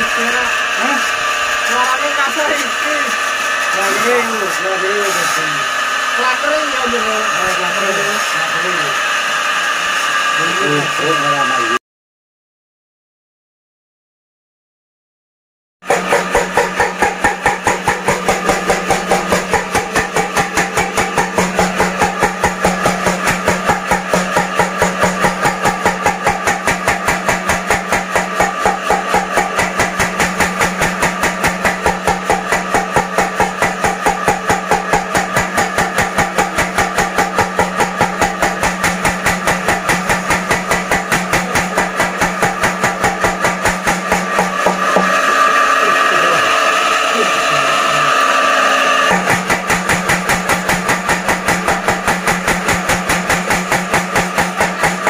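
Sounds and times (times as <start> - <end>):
power hammer striking: 0.0 - 11.5, 15.8 - 55.0
motor hum: 0.0 - 11.8, 15.9 - 55.0.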